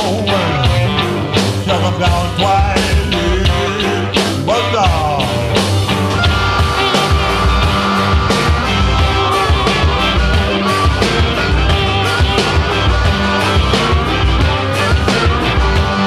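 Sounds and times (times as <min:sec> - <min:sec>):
drums: 0:00.0 - 0:16.0
electric guitar: 0:00.0 - 0:16.0.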